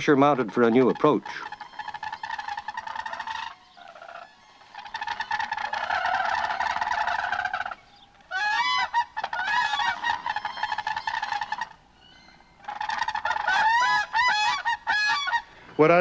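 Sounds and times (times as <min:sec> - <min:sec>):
crane trumpeting calls: 0:00.0 - 0:16.0.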